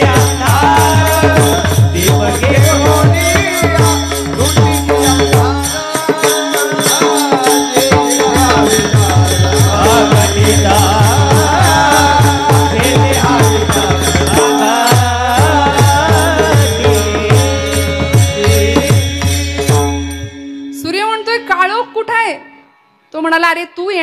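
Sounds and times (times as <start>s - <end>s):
person singing: 0.0s - 19.9s
hand drum beat: 0.0s - 20.3s
harmonium drone: 0.0s - 24.0s.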